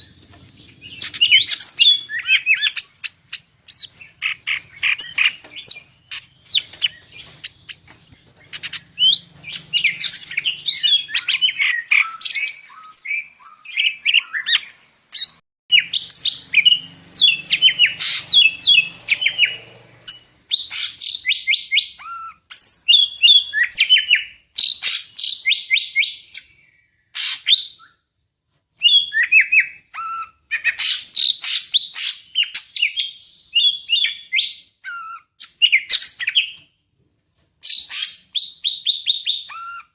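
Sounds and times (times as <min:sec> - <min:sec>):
bird singing varied song: 0:00.0 - 0:28.1, 0:28.8 - 0:36.7, 0:37.6 - 0:39.9.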